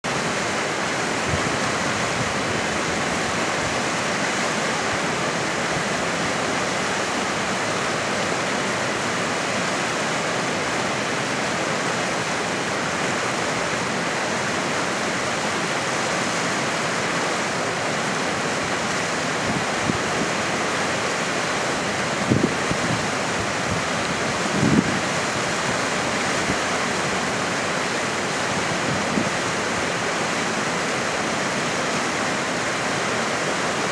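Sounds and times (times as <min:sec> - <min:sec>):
river rushing over rocks: 0:00.0 - 0:33.9.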